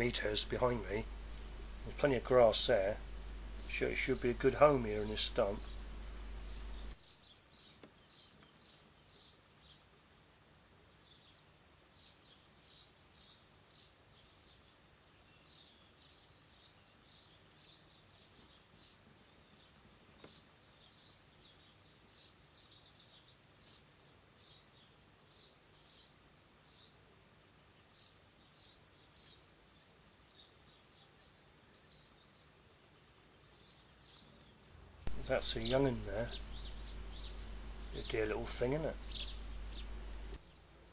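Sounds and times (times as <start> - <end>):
faint bird chirping: 0.0 - 40.9.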